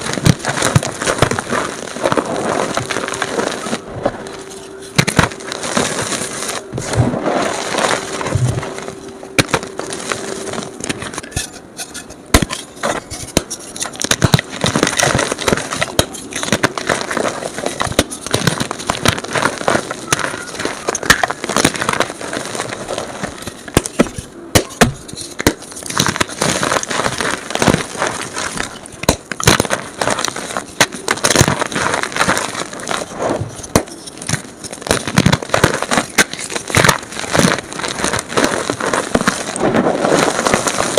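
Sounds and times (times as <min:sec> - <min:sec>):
chalk crunching and crackling: 0:00.0 - 0:40.9
faint steady hum: 0:00.0 - 0:40.9.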